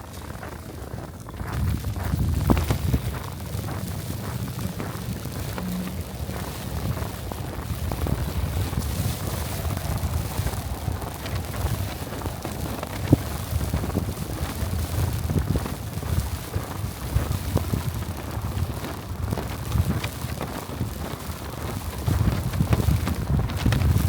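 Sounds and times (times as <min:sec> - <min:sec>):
wind buffeting microphone: 0:00.0 - 0:24.0
hiss of blowing snow: 0:02.1 - 0:24.0.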